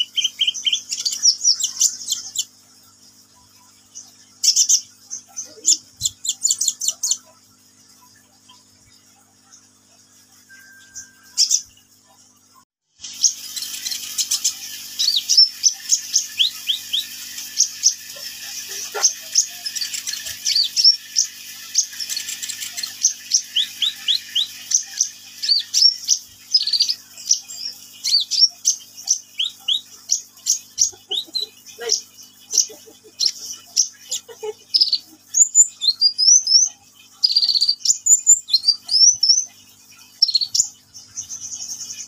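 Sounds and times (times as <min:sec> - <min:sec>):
bird singing rapid chirps: 0:00.0 - 0:42.0.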